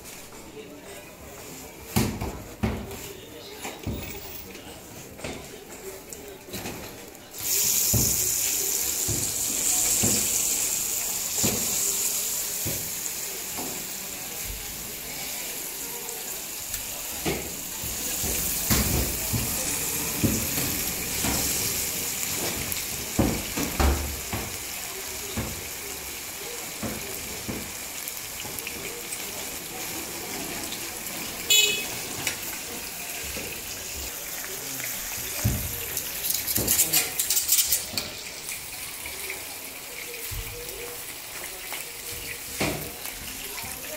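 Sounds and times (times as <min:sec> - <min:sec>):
chicken sizzling in oil: 0:03.0 - 0:43.9.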